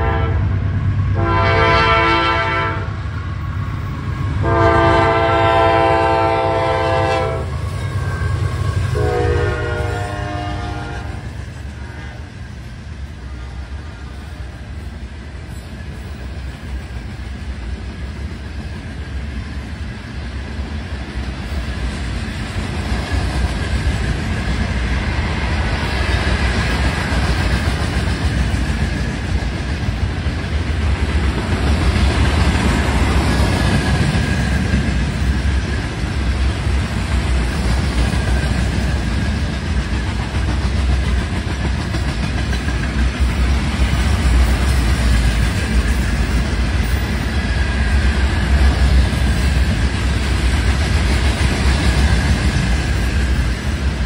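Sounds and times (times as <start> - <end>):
train rumbling past: 0.0 - 54.0.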